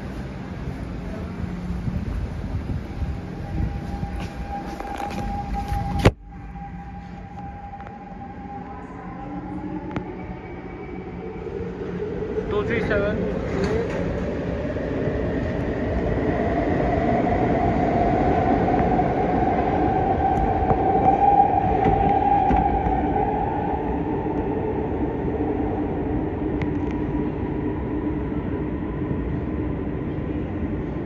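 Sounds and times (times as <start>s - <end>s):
metro train motor whine: 0.0s - 31.0s
wheels rumbling on rail: 0.0s - 31.0s.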